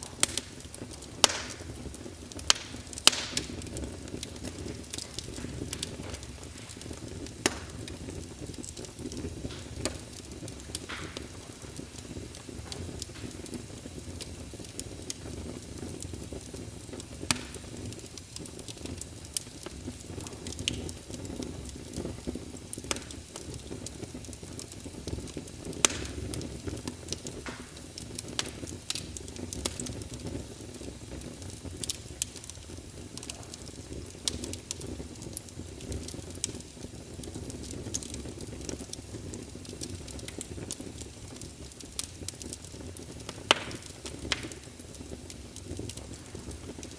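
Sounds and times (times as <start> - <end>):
fire crackles and pops: 0.0 - 46.9
low rushing of flame: 0.0 - 46.9.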